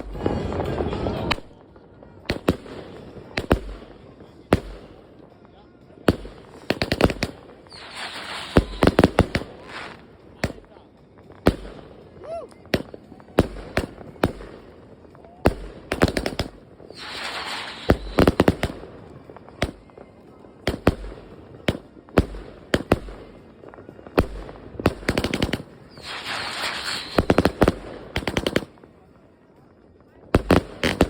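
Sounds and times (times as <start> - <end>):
firework bangs: 0.0 - 5.4, 6.0 - 29.1, 30.3 - 31.0
firework crackle: 0.0 - 31.0.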